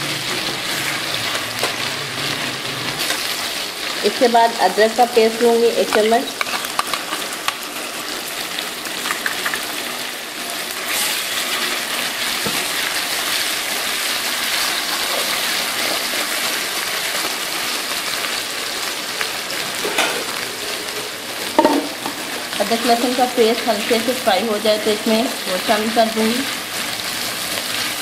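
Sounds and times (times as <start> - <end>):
paste sizzling in oil: 0.0 - 28.0.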